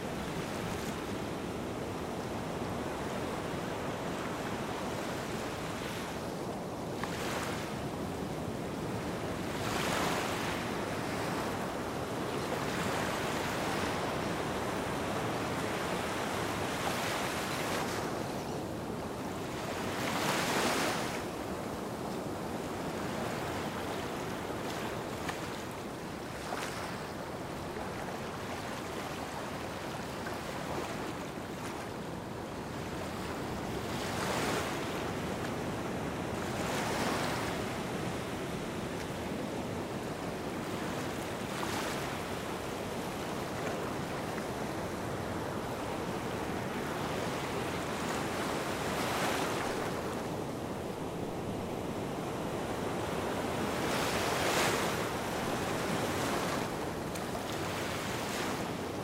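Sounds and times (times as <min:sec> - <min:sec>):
waves washing onto sand: 0:00.0 - 0:59.0.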